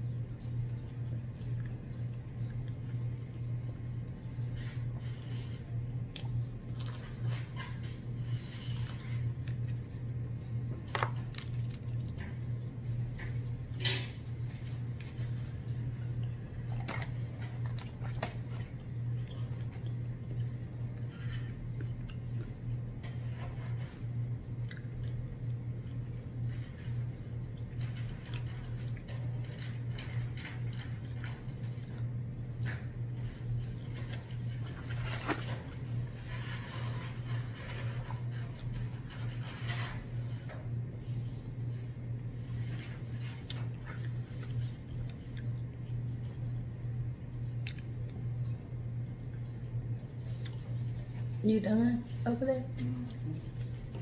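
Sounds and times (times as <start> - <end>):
chewing food: 0.0 - 51.4
steady low hum: 0.0 - 54.0.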